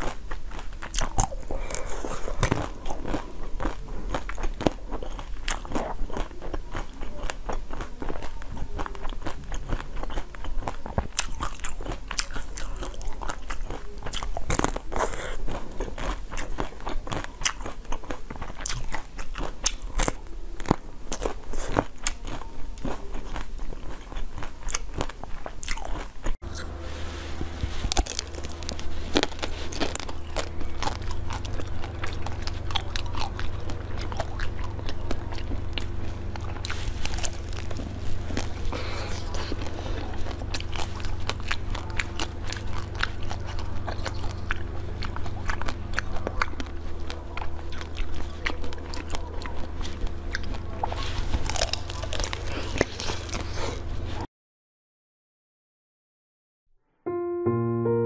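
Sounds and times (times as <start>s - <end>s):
ice crunching between teeth: 0.0s - 26.6s, 27.8s - 54.2s
low steady hum: 0.0s - 54.2s
chewing: 0.0s - 54.3s.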